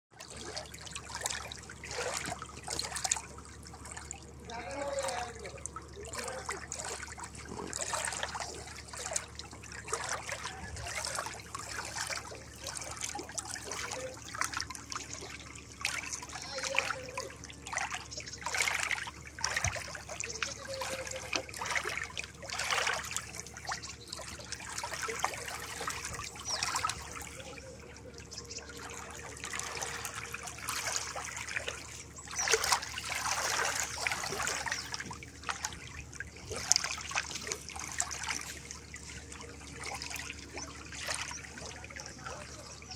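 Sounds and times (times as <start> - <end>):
water trickling and gurgling: 0.1 - 42.9.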